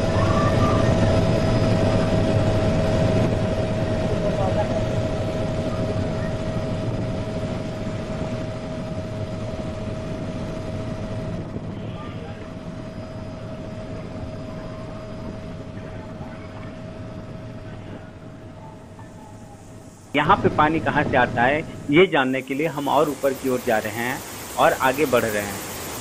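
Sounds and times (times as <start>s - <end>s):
thin steady tone: 0.0s - 26.0s.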